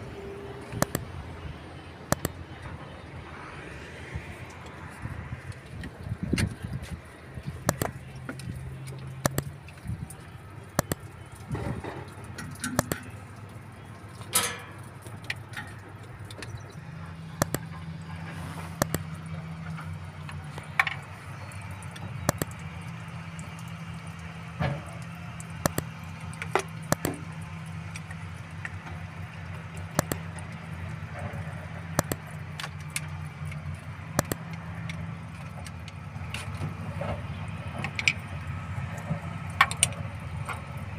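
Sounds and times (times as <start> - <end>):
low engine hum: 0.0 - 40.9
hand tools tapping on metal: 4.4 - 40.9.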